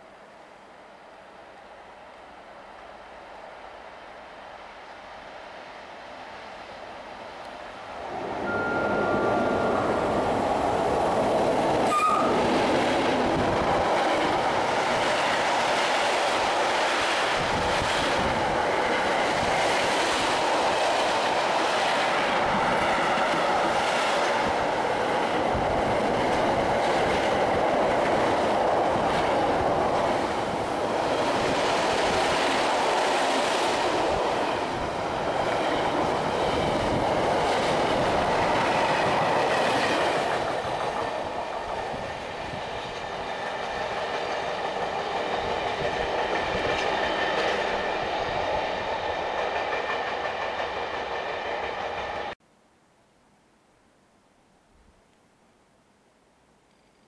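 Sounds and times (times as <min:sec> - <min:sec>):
freight train passing: 0:01.7 - 0:52.4.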